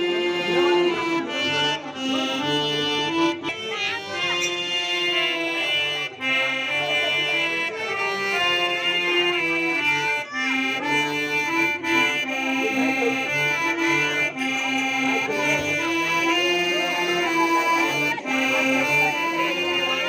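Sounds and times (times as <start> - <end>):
harmonium playing held notes: 0.0 - 20.0.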